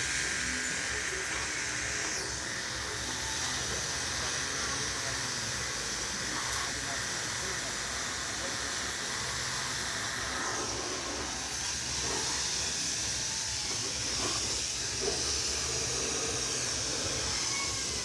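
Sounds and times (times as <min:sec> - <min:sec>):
pressure washer water jet hissing: 0:00.0 - 0:18.0.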